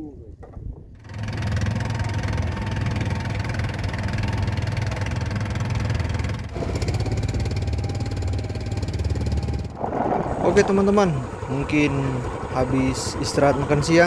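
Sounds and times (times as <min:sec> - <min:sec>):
boat engine droning: 0:01.0 - 0:14.0.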